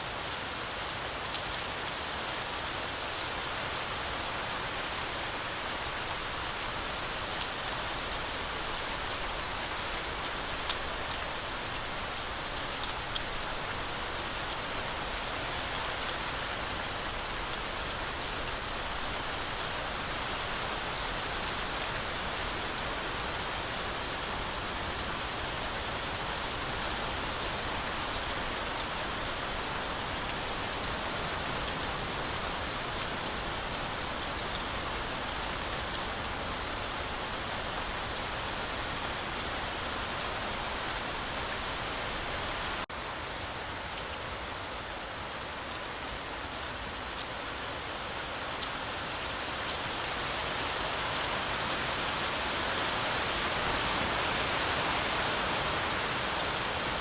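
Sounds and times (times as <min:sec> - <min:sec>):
heavy rain through forest canopy: 0:00.0 - 0:57.0.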